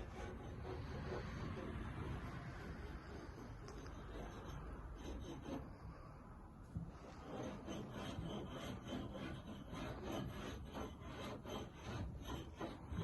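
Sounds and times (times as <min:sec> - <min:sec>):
scraping strokes on wood: 0:00.0 - 0:06.0, 0:06.6 - 0:13.0.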